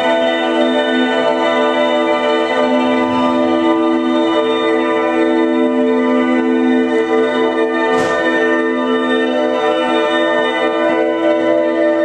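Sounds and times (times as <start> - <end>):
organ-like droning chord: 0.0 - 12.0.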